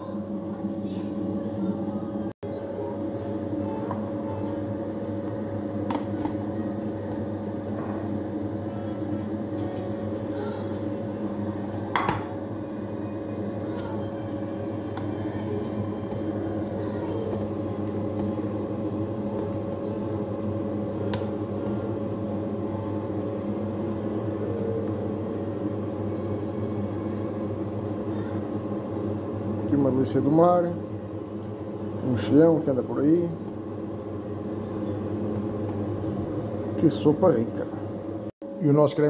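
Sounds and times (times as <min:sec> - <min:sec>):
appliance motor hum: 0:00.0 - 0:39.0.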